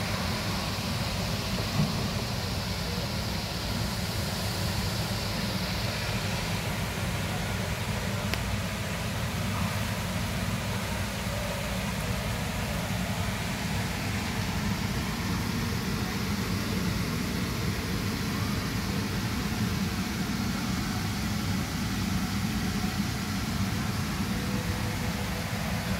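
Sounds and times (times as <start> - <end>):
hiss: 0.0 - 25.9.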